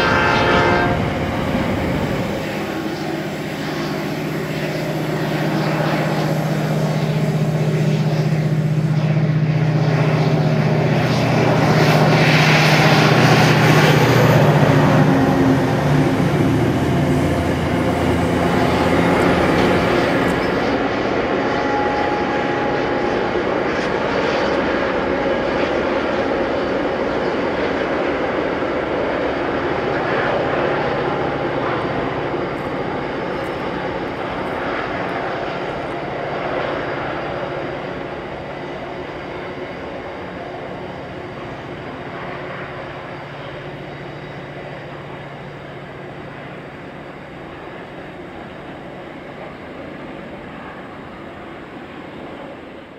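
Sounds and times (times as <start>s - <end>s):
diesel locomotive engine drone: 0.0s - 52.9s.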